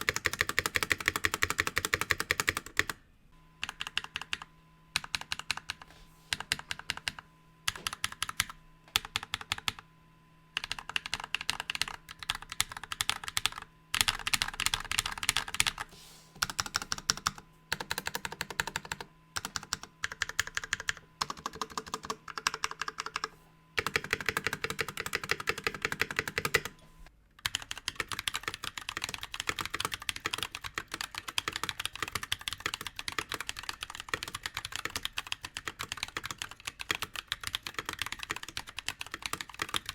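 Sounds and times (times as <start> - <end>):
mechanical keyboard typing: 0.0 - 3.0, 3.6 - 9.8, 10.6 - 26.8, 27.4 - 39.9.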